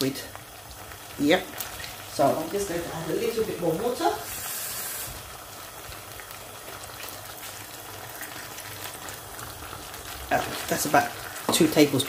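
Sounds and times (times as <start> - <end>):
sauce bubbling at a simmer: 0.0 - 12.0
water hissing in hot pan: 0.0 - 12.0.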